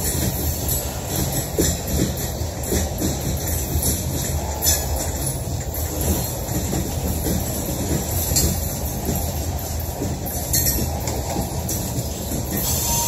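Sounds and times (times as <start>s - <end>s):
train wheels rumbling on rail: 0.0s - 13.0s
wheels scraping rail: 0.0s - 13.0s.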